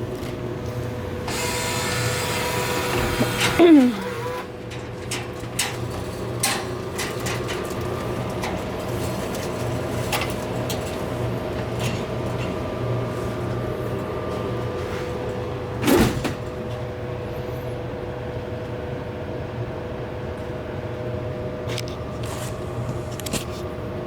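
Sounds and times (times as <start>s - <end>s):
vending machine humming: 0.0s - 24.0s.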